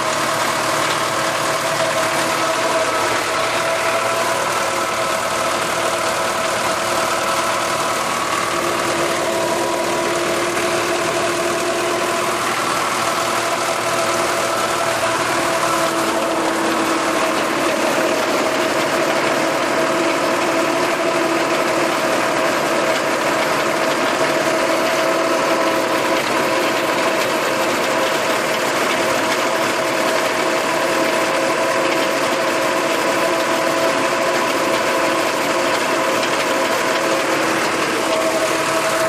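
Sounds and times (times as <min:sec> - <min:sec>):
tractor engine droning: 0:00.0 - 0:39.0.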